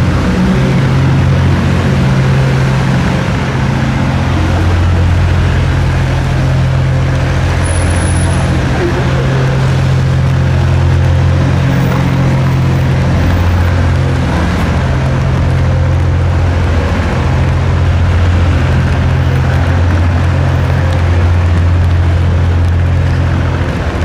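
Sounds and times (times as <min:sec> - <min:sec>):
street noise: 0:00.0 - 0:24.0
vehicle engine running: 0:00.0 - 0:24.0.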